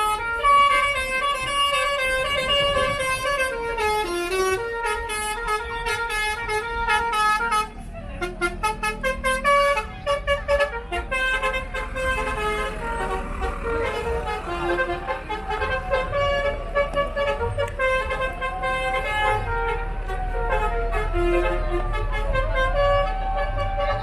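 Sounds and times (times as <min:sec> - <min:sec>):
bus horn playing a tune: 0:00.0 - 0:24.0.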